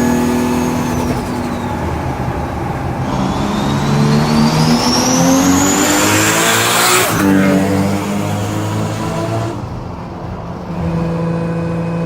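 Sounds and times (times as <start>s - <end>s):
car engine revving: 0.0s - 10.0s
car engine running: 0.0s - 10.2s.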